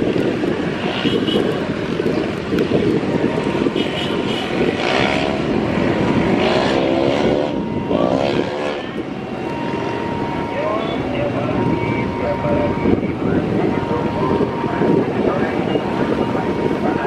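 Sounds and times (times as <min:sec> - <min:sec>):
jet engines rumbling: 0:00.0 - 0:17.0
wind buffeting microphone: 0:00.0 - 0:17.0
thin engine whine: 0:03.0 - 0:17.0.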